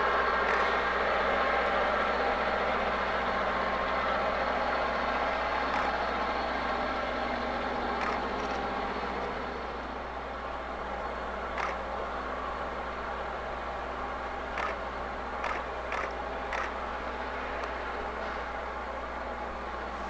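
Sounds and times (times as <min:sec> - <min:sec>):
diesel locomotive engines running: 0:00.0 - 0:20.0.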